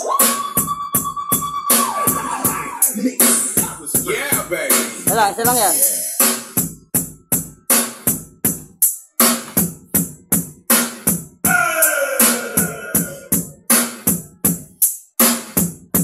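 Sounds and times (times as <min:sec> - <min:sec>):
dance music with drum-machine beat: 0:00.0 - 0:16.0.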